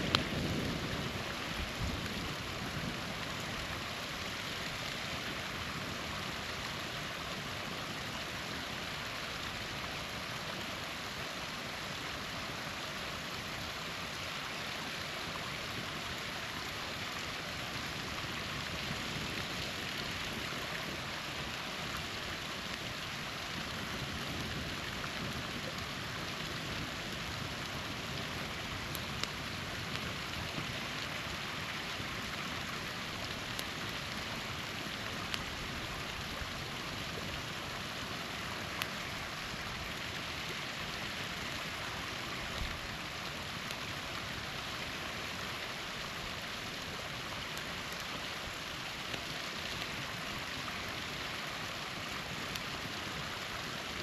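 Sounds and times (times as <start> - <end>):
campfire crackling and popping: 0.0 - 54.0
small waterfall rushing: 0.0 - 54.0.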